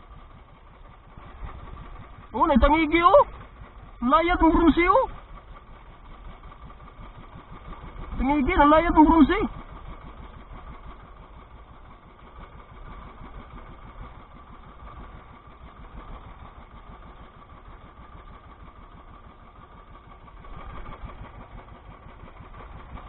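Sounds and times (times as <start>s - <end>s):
boat engine pulsing drone: 0.0s - 23.0s.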